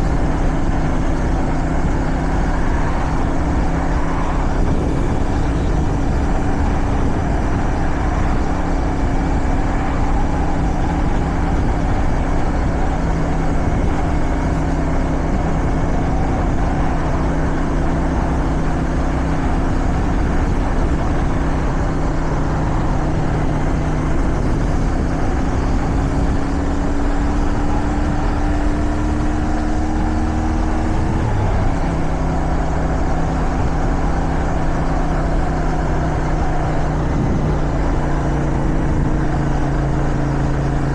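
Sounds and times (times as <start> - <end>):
motorcycle engine running: 0.0 - 40.9
rushing wind: 0.0 - 40.9.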